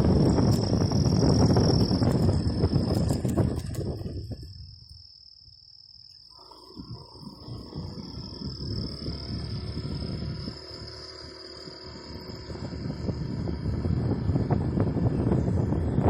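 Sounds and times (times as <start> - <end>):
low rumble: 0.0 - 5.2, 6.4 - 16.0
insects droning: 0.0 - 16.0.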